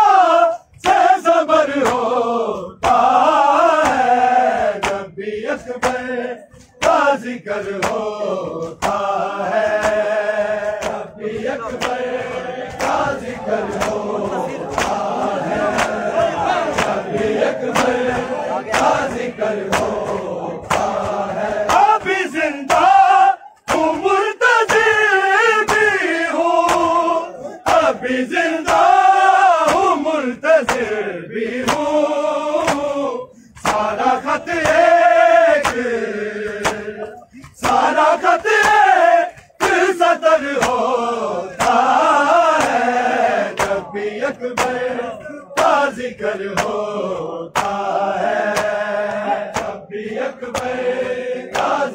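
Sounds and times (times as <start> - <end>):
men chanting a lament: 0.0 - 51.9
hands slapping chests: 0.8 - 2.2, 2.8 - 31.0, 31.6 - 33.0, 33.6 - 51.9.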